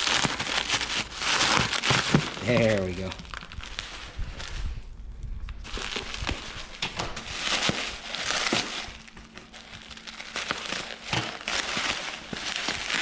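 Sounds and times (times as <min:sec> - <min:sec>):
packing material crinkling: 0:00.0 - 0:04.9, 0:05.5 - 0:13.0.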